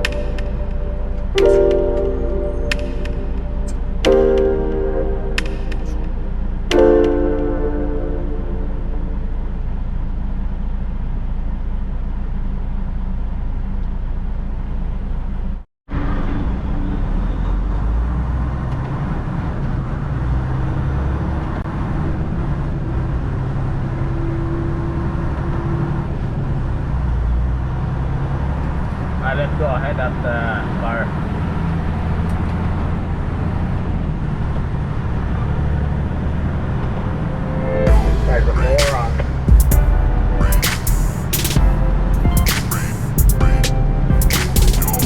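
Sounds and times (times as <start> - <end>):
road and tyre noise: 8.2 - 45.0.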